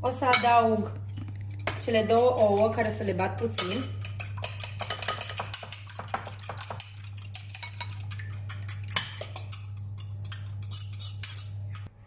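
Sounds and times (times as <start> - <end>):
spoon clinking in glass bowl: 1.6 - 11.9.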